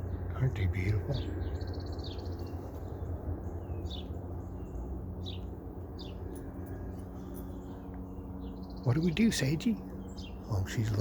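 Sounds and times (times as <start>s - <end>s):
songbirds chirping: 0.0s - 11.0s
steady low rumble: 0.0s - 11.0s.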